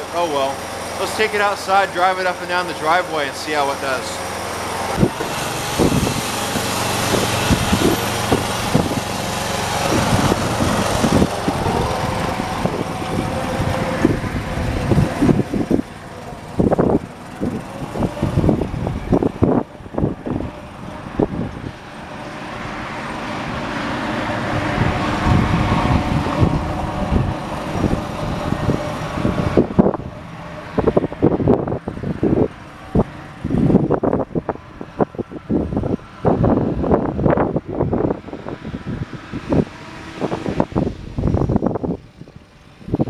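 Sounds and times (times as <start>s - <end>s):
lawn tractor engine running: 0.0s - 43.0s
wind buffeting microphone: 0.0s - 43.0s.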